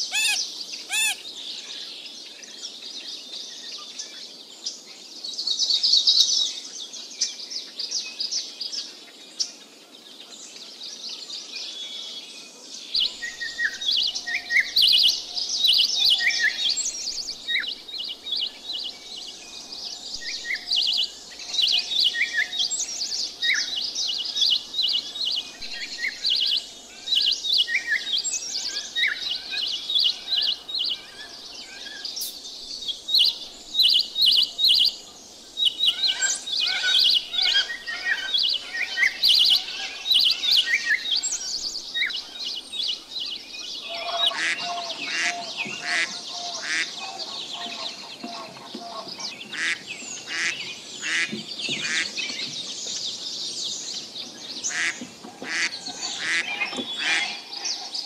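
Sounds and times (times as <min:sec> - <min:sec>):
small birds chirping: 0:00.0 - 0:05.7, 0:12.7 - 0:58.0.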